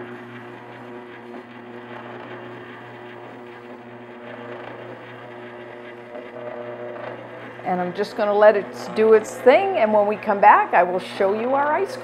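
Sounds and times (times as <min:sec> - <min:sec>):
ice cream maker motor humming: 0:00.0 - 0:12.0.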